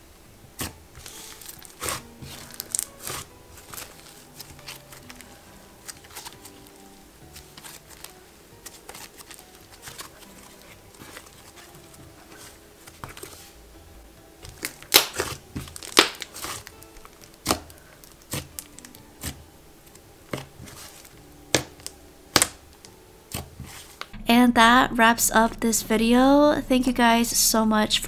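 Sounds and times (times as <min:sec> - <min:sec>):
faint background music: 0:00.0 - 0:28.0
slime popping and crackling: 0:00.6 - 0:13.3, 0:14.4 - 0:24.2.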